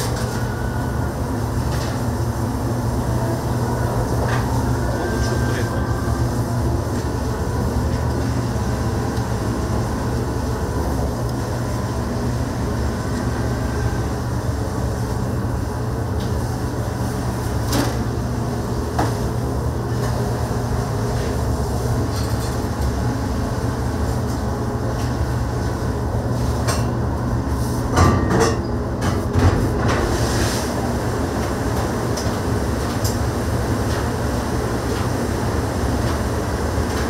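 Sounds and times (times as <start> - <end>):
restaurant kitchen rumble: 0.0 - 37.0.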